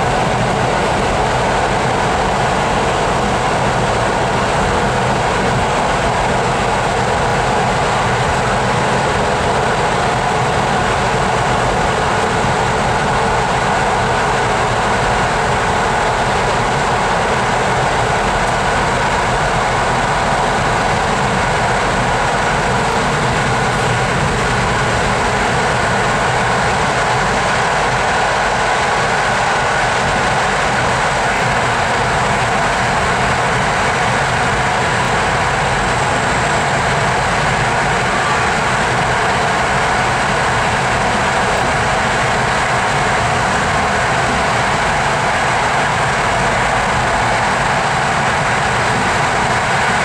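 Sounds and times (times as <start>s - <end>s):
train running noise inside coach: 0.0s - 50.0s.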